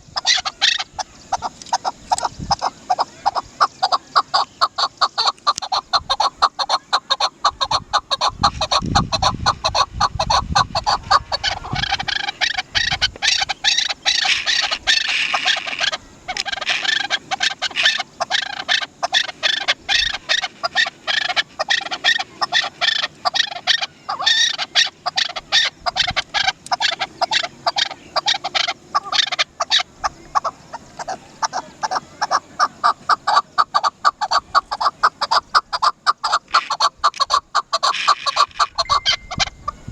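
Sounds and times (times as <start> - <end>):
partridge clucking call: 0.0 - 39.9.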